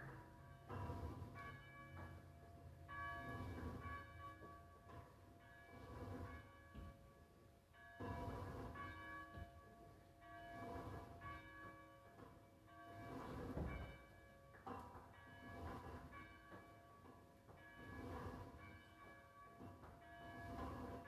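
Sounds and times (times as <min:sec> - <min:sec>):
church bell tolling slowly: 0:00.0 - 0:21.0.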